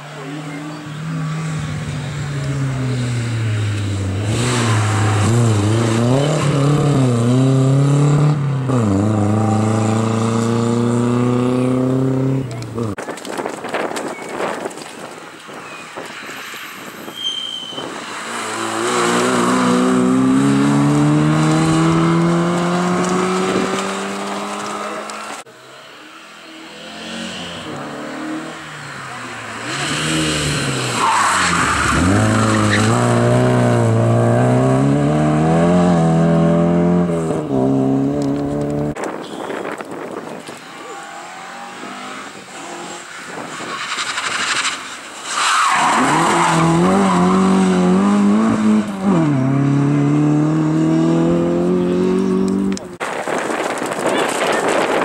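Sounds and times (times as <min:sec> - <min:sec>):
rally car engines accelerating: 0:00.0 - 0:13.0, 0:18.0 - 0:39.0, 0:40.6 - 0:55.0.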